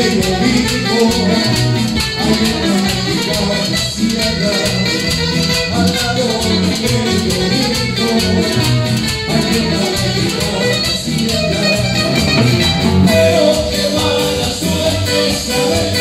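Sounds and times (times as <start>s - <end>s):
bass: 0.0s - 16.0s
strummed acoustic guitars: 0.0s - 16.0s.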